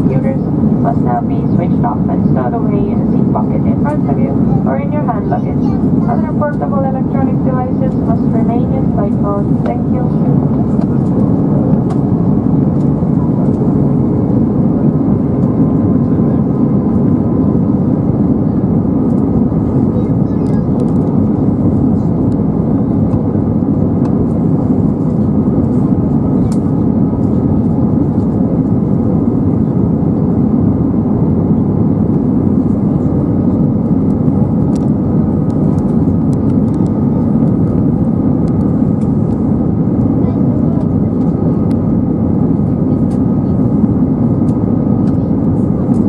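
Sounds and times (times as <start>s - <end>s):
airplane cabin roar: 0.0s - 46.0s.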